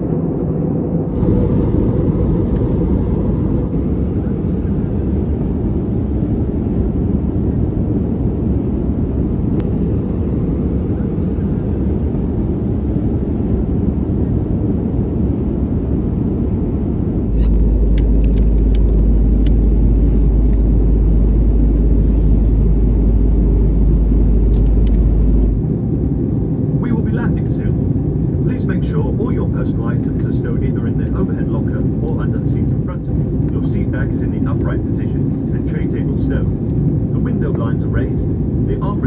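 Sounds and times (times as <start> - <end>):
airplane cabin rumble: 0.0 - 39.0.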